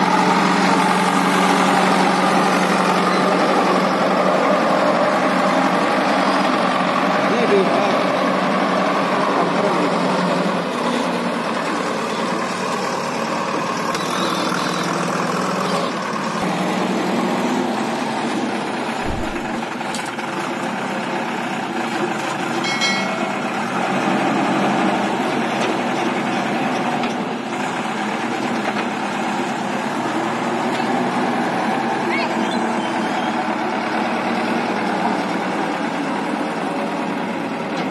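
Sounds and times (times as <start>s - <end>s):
backhoe loader working: 0.0s - 37.9s
tractor engine idling: 0.0s - 37.9s.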